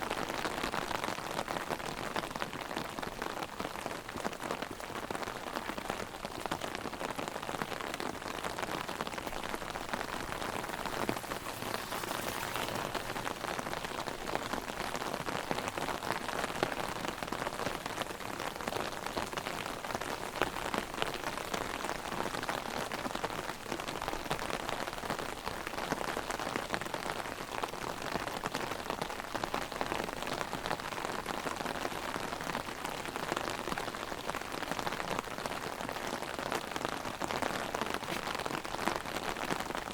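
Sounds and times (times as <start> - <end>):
rain drumming on umbrella: 0.0 - 39.9.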